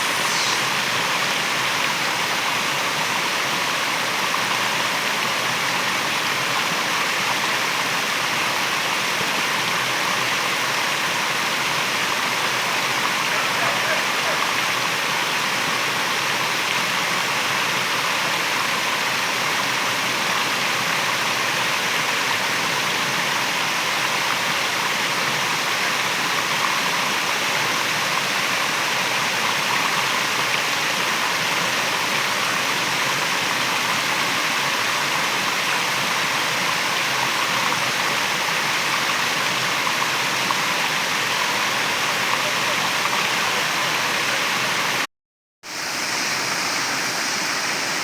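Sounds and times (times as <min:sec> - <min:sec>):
waterfall rushing: 0:00.0 - 0:45.1.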